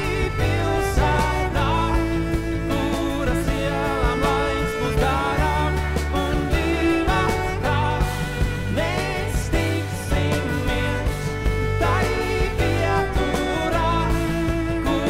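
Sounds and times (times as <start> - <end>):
acoustic guitar: 0.0 - 15.0
bowed cello: 0.0 - 15.0
keyboard: 0.0 - 15.0
man singing: 0.0 - 15.0.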